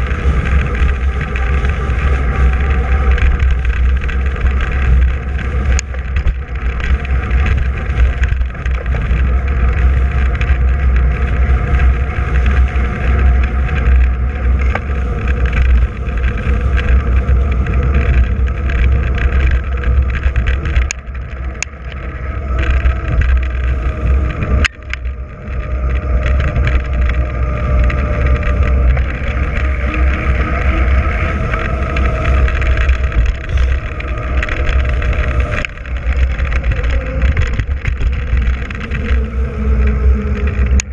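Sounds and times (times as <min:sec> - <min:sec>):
tyres rushing on asphalt: 0:00.0 - 0:40.9
wind buffeting microphone: 0:00.0 - 0:40.9.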